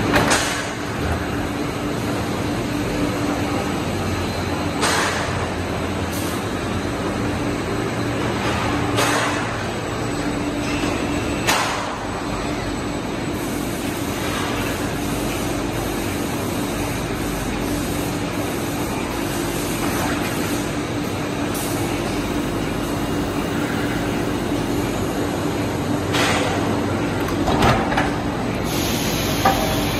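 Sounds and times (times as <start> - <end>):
industrial machinery humming: 0.0 - 29.9.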